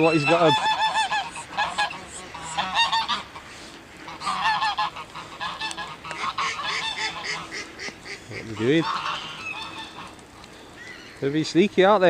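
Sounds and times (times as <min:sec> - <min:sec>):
geese honking: 0:00.0 - 0:11.2.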